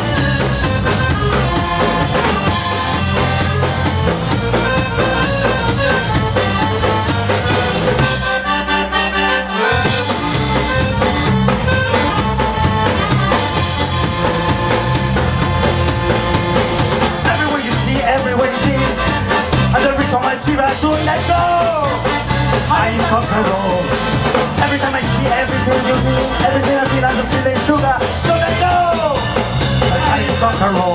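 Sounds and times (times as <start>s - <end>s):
bass guitar: 0.0s - 30.9s
drum kit: 0.0s - 30.9s
guitar: 0.0s - 30.9s.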